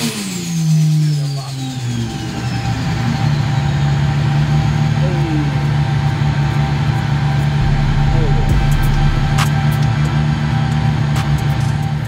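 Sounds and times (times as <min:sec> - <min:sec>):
car engine low drone: 0:00.1 - 0:12.0.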